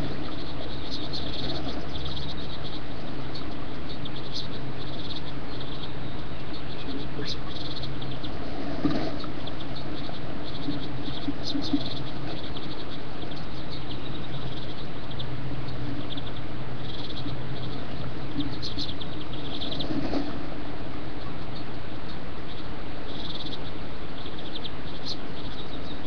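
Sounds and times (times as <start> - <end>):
steady microphone hiss: 0.0 - 26.0.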